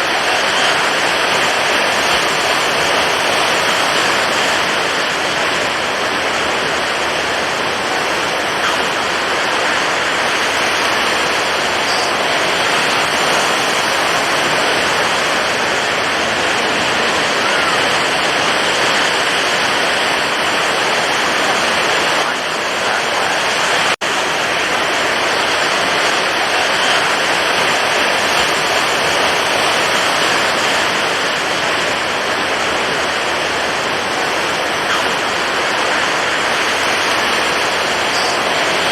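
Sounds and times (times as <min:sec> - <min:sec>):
stormy ocean waves: 0:00.0 - 0:38.9.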